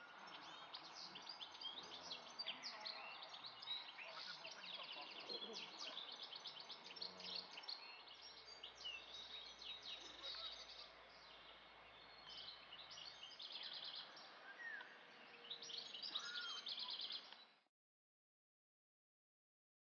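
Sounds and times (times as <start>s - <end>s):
faint outdoor hiss: 0.0s - 17.7s
songbirds chirping and trilling: 0.0s - 17.7s.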